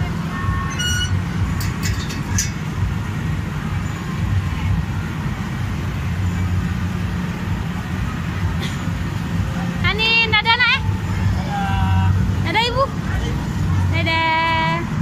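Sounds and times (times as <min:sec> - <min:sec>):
indistinct indoor crowd din: 0:00.0 - 0:15.0
steady low hum: 0:00.0 - 0:15.0.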